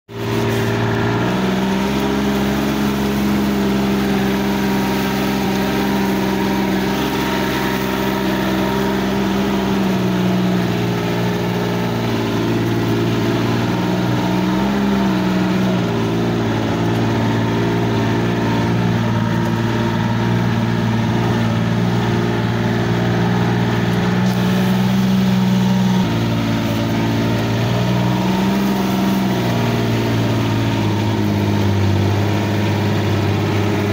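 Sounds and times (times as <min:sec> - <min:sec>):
utility vehicle engine running: 0:00.1 - 0:33.9.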